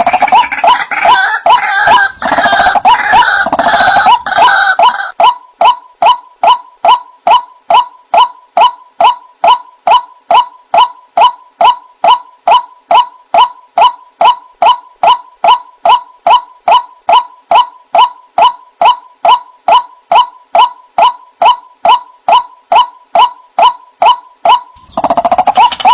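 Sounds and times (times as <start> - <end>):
bird calling sharp notes: 0.0 - 25.9.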